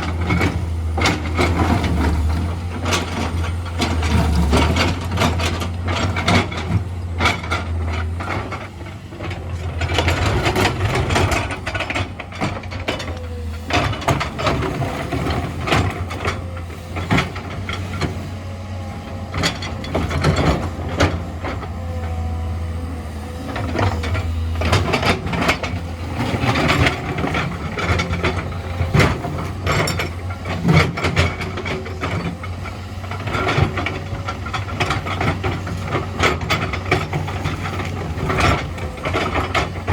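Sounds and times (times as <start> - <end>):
diesel engine hum: 0.0 - 39.9
excavator knocks and clatters: 0.0 - 39.9.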